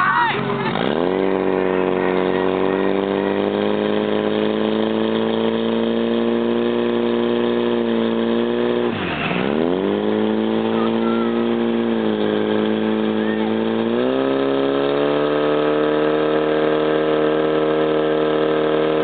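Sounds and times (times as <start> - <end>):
pump engine high-pitched drone: 0.0 - 19.0.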